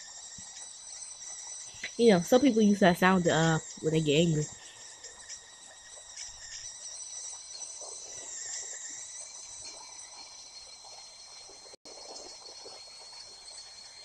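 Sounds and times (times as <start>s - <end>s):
kettle whistling: 0.0s - 14.0s.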